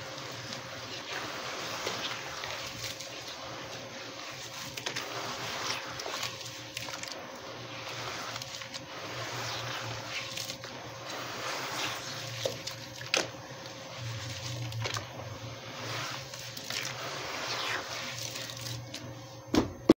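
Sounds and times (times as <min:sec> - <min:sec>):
wet cement squishing and sloshing: 0:00.0 - 0:19.0.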